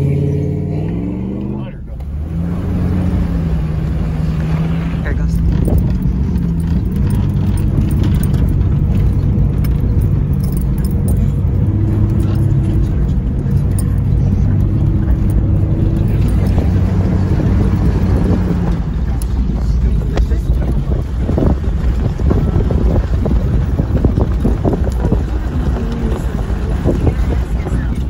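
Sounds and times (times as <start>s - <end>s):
car engine running: 0.0s - 28.0s
vehicle rattles and clicks: 0.0s - 28.0s.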